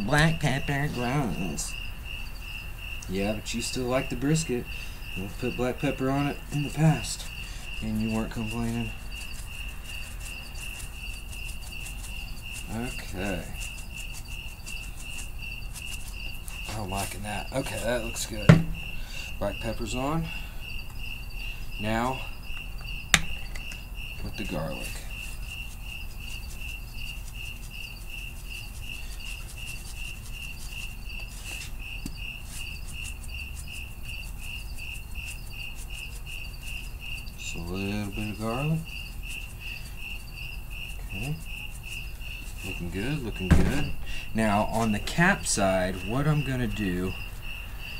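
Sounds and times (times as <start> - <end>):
cricket chirping: 0.0 - 47.9.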